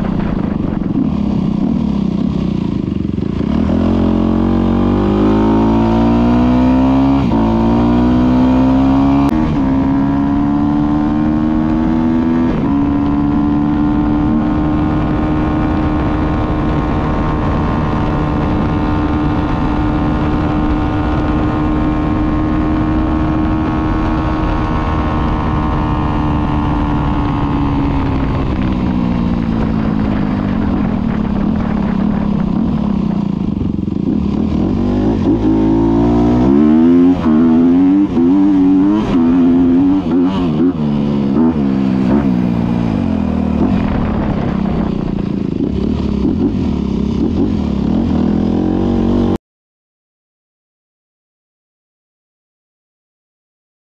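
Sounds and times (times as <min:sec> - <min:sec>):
motorcycle engine accelerating: 0:00.0 - 0:49.4.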